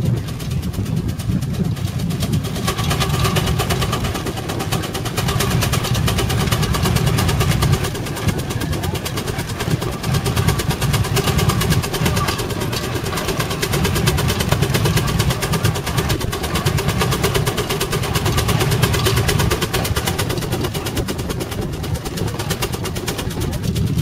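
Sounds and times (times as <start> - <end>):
steam engine exhaust beating: 0.0 - 24.0.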